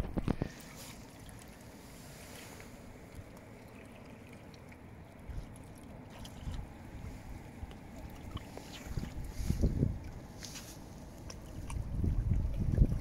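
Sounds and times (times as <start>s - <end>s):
water at shoreline: 0.0s - 13.0s
wind: 0.0s - 13.0s.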